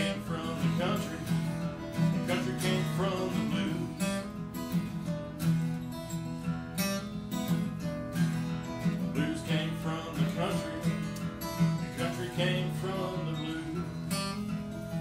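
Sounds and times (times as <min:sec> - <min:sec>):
acoustic guitar strumming: 0:00.0 - 0:15.0
picked guitar notes: 0:00.0 - 0:15.0.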